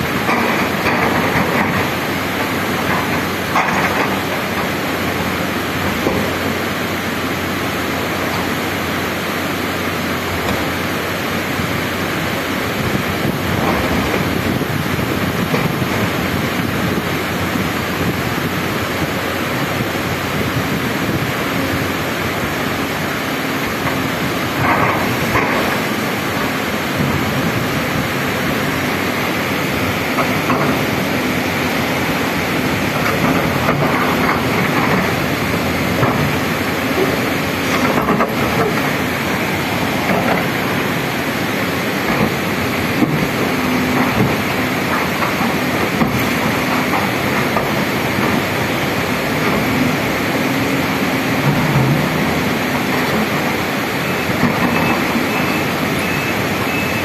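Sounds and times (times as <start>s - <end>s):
excavator diesel engines droning: 0.0s - 57.0s
rushing stream water: 0.0s - 57.0s.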